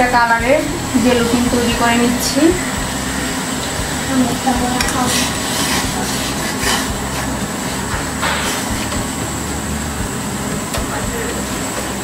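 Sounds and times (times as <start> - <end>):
gas burner rushing: 0.0 - 12.0.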